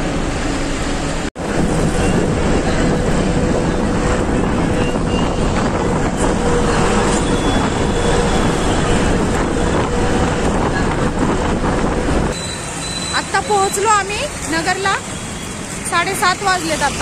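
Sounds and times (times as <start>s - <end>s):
road and engine noise: 0.0s - 17.0s.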